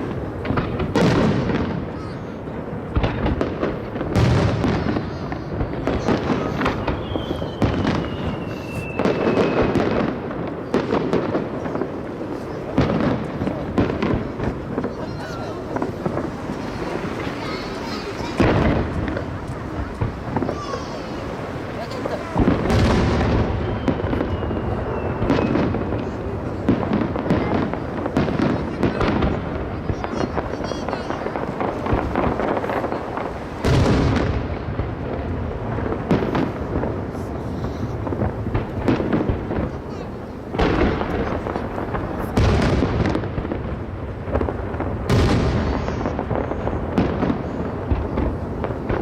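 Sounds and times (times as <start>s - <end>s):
firework boom with rumble: 0.0s - 49.0s
fireworks bangs and crackles: 0.0s - 49.0s.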